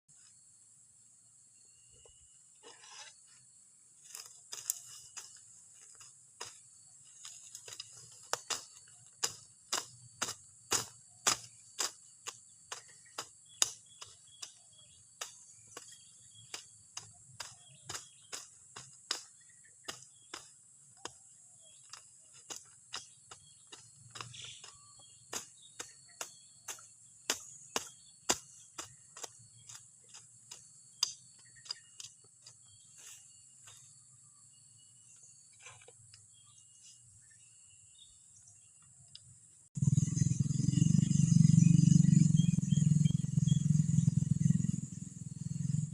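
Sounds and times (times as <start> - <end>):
insect chirring: 0.1 - 45.9.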